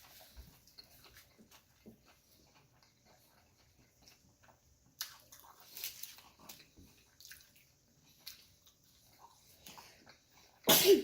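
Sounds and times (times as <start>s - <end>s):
wet chewing: 0.0s - 10.7s.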